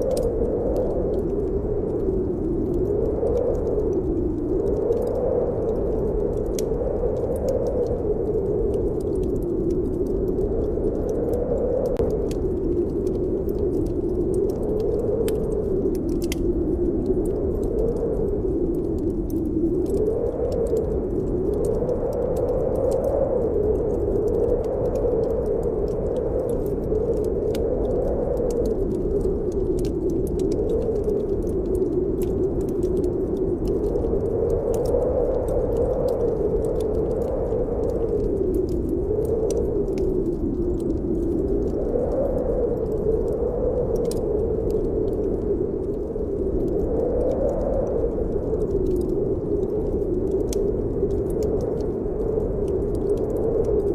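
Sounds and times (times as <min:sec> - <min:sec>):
wind blowing: 0:00.0 - 0:53.9
wood fire crackling: 0:00.0 - 0:53.9.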